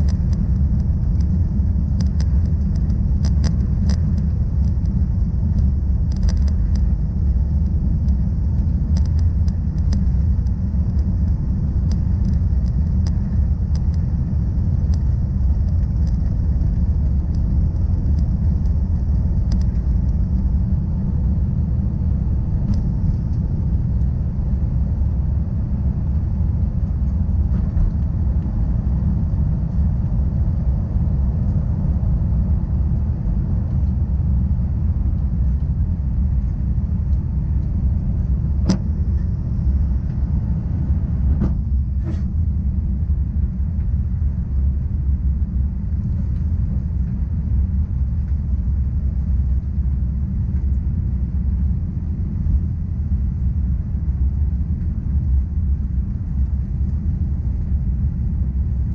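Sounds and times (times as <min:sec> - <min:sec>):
jet engine rumble in cabin: 0:00.0 - 0:58.9.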